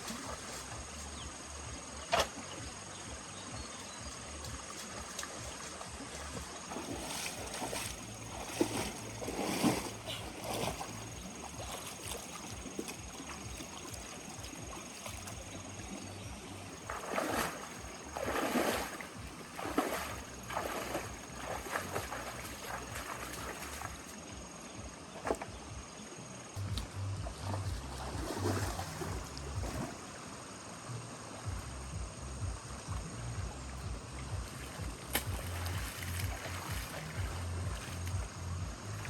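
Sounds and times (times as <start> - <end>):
water splashing swishes: 0.0 - 39.0.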